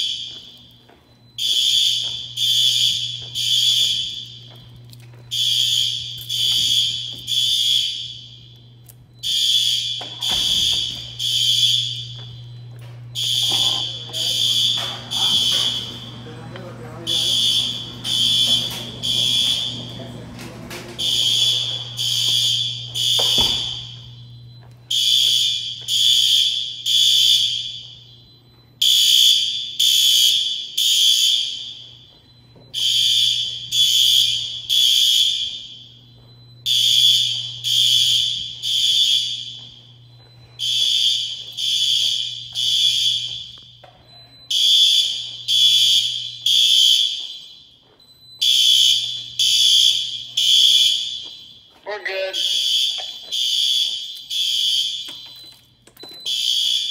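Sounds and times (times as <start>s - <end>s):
fire alarm horn blasts: 0.0s - 56.9s.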